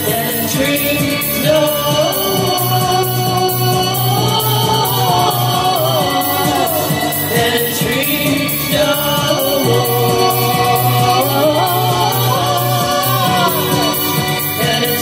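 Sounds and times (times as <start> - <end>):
electronic dance music: 0.0 - 15.0
woman singing into a microphone: 0.0 - 15.0.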